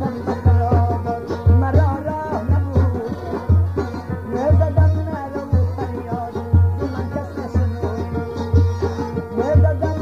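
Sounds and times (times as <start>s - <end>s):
plucked lute notes: 0.0s - 10.0s.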